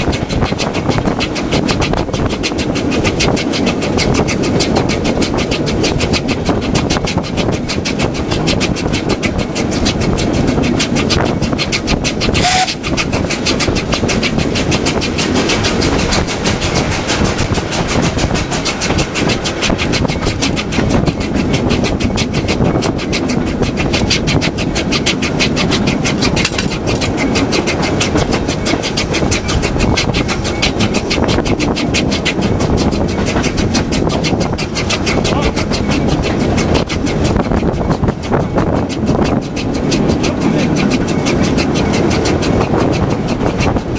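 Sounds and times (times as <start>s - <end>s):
rail clatter: 0.0s - 43.9s
train rumbling: 0.0s - 43.9s.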